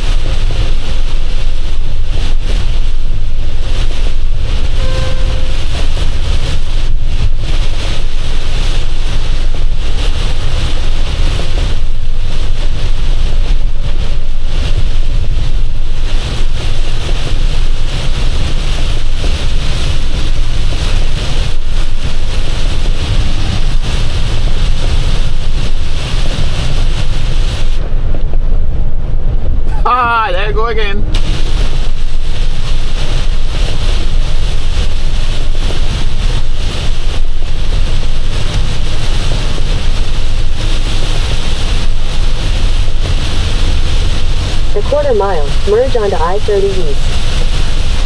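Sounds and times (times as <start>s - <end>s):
heavy rain hitting truck cab: 0.0s - 48.0s
truck engine and tyres rumbling: 0.0s - 48.0s.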